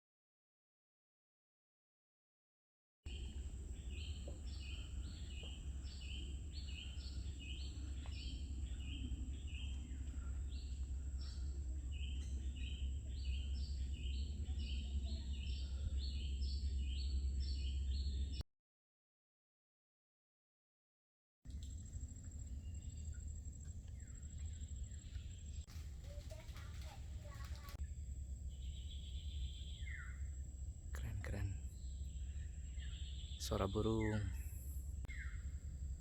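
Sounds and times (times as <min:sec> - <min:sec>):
bird chirping: 0:03.1 - 0:18.4, 0:21.5 - 0:36.0
steady low rumble: 0:03.1 - 0:18.4, 0:21.5 - 0:36.0.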